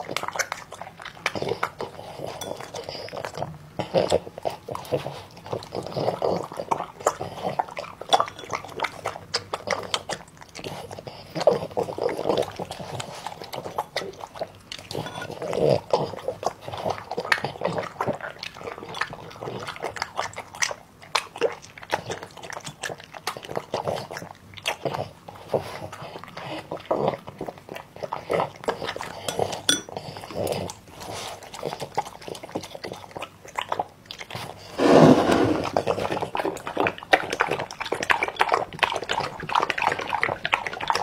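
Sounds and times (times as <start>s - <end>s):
dog chewing and lip-smacking: 0.0s - 34.8s, 35.7s - 41.0s.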